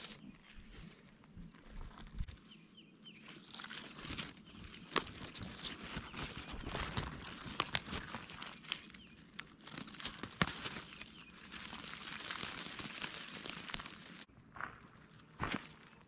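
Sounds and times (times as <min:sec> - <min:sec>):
sharp snaps and crunches: 0:00.0 - 0:00.7, 0:03.2 - 0:16.0
dry leaves and mulch rustling: 0:00.0 - 0:16.0.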